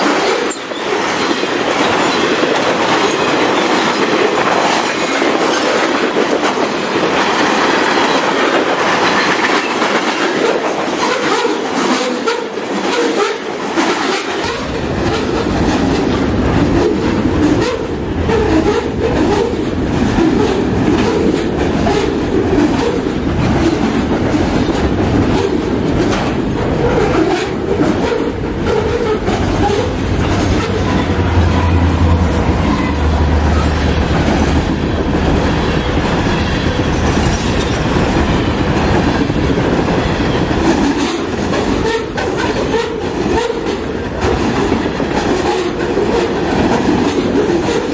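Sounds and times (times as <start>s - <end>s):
train wheels rumbling on rail: 0.0s - 47.9s
wheels clicking over rail joints: 0.0s - 47.9s.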